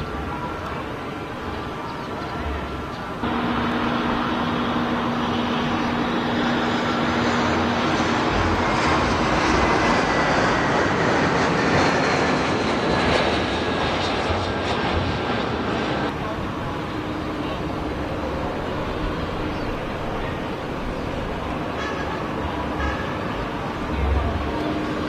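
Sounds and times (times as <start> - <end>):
jet engines whining: 0.0 - 25.0.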